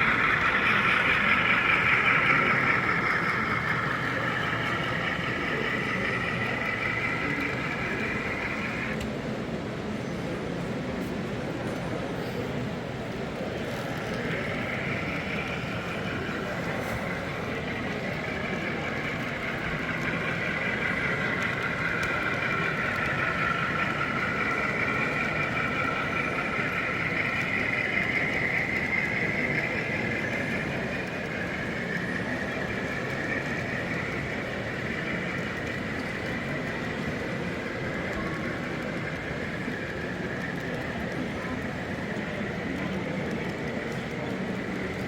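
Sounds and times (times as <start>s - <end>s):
model train whirring: 0.0s - 45.0s.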